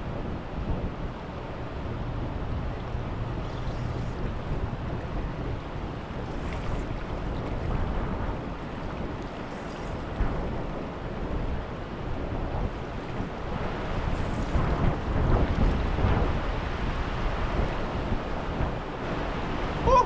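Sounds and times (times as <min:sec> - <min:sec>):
wind buffeting microphone: 0:00.0 - 0:20.0
river current rushing: 0:01.5 - 0:20.0.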